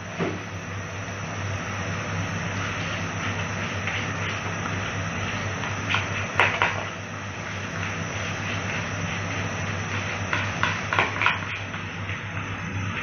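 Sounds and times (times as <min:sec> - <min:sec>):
onions frying: 0:00.0 - 0:13.0
steady hiss and low hum: 0:00.0 - 0:13.0.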